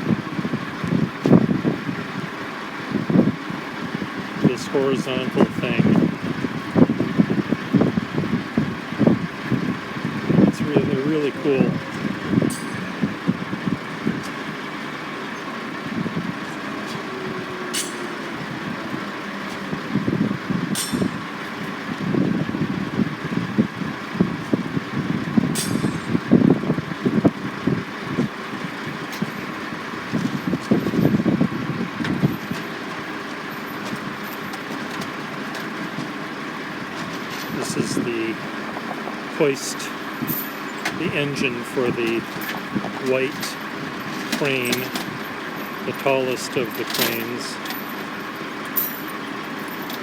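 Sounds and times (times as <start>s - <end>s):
heavy machinery engines running: 0.0s - 50.0s.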